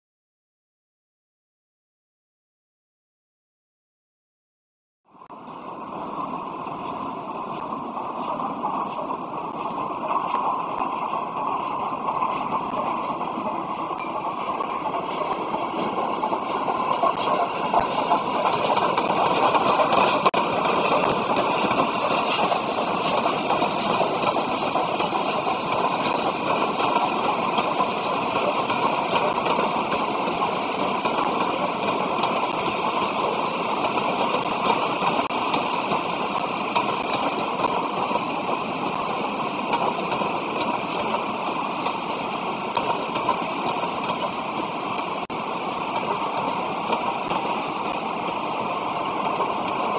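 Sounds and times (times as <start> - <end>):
passenger train rumbling past: 5.1 - 49.9.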